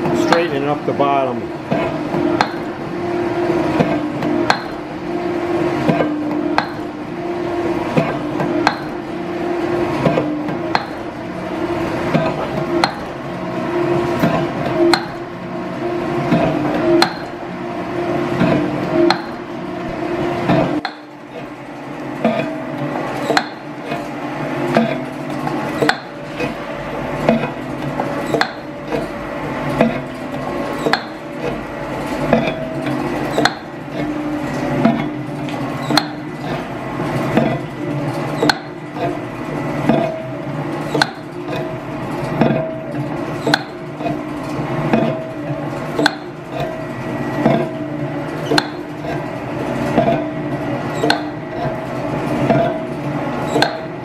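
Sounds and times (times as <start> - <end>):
machine running: 0.0 - 54.0.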